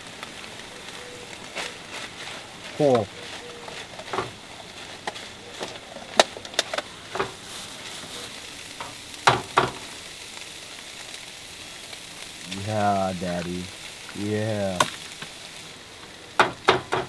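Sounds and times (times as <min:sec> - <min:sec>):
meat and vegetables sizzling in pan: 0:00.0 - 0:17.0.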